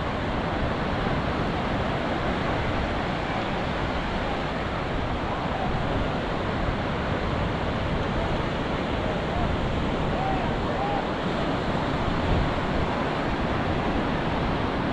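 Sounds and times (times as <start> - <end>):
sea waves washing onto beach: 0.0 - 14.9.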